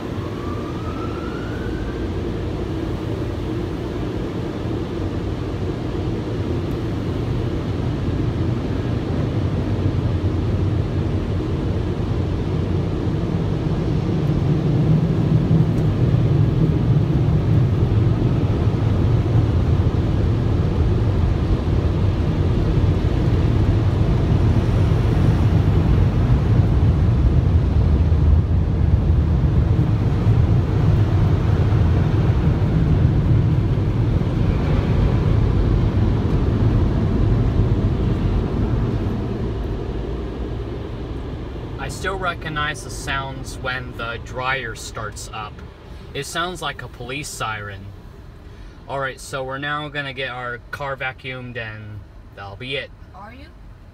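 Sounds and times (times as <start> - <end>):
car wash air blowers: 0.0 - 52.2.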